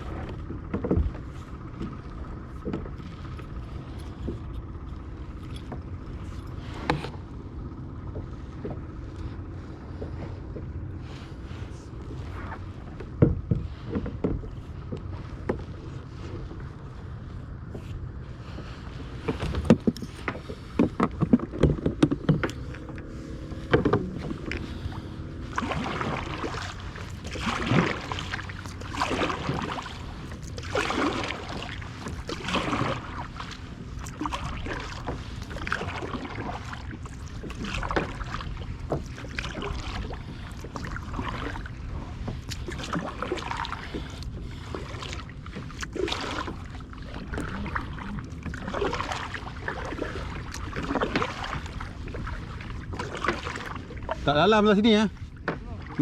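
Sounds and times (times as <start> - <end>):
paddle splashing water: 0.0 - 56.0.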